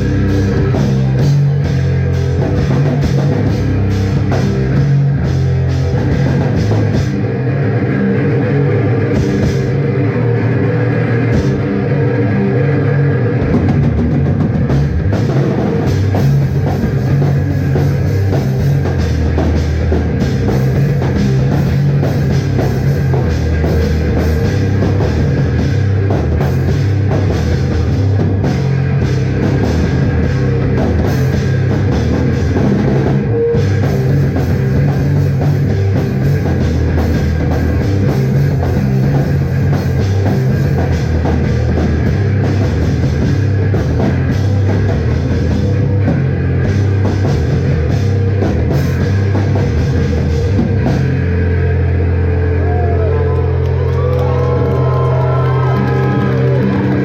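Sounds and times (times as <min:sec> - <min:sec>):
drum kit: 0:00.0 - 0:57.0
electric guitar: 0:00.0 - 0:57.0
live rock band playing: 0:00.0 - 0:57.0.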